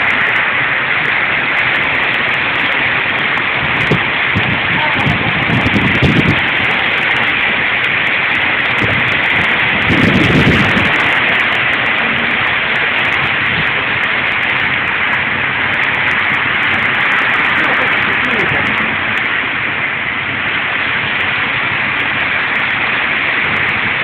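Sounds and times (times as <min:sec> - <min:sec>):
hailstones ticking: 0:00.0 - 0:24.0
heavy rain on pavement: 0:00.0 - 0:24.0.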